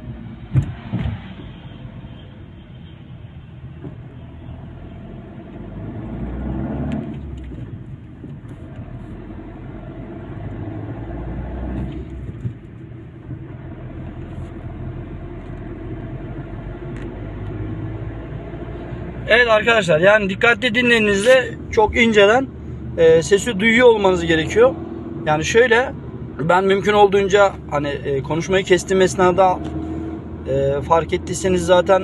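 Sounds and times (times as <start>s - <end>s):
diesel car engine pulling: 3.9s - 32.0s.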